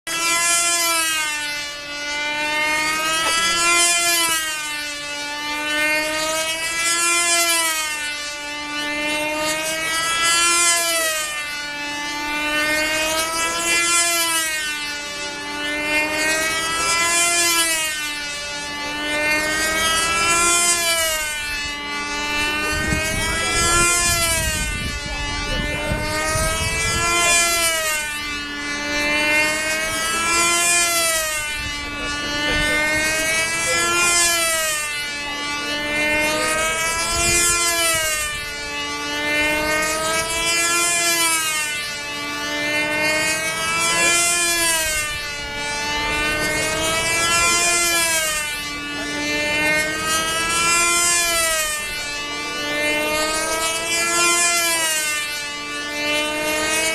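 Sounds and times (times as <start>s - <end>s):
model airplane engine buzzing: 0.0s - 56.9s.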